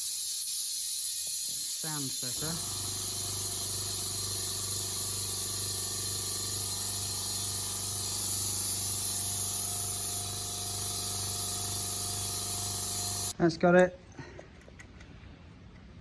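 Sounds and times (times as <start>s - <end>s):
compressed air hissing into tyre: 0.0s - 13.4s.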